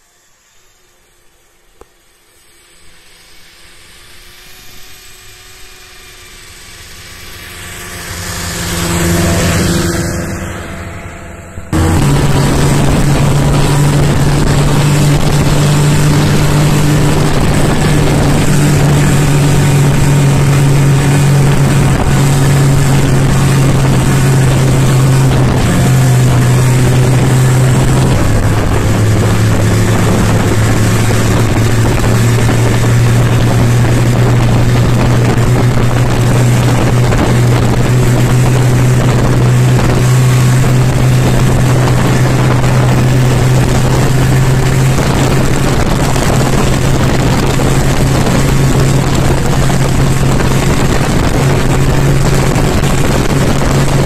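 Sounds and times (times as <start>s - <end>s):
snowmobile engine running loud: 0.0s - 54.0s
snowmobile passing: 0.0s - 54.0s.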